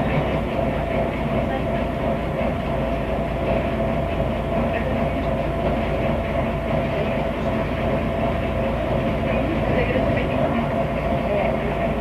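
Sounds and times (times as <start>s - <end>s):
bus diesel engine running: 0.0s - 12.0s
road rumble: 0.0s - 12.0s.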